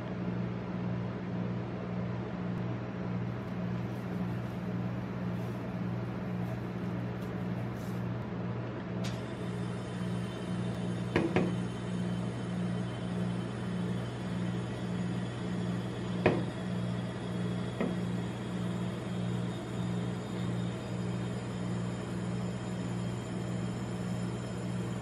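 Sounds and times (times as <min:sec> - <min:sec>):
machine low hum: 0:00.0 - 0:25.0.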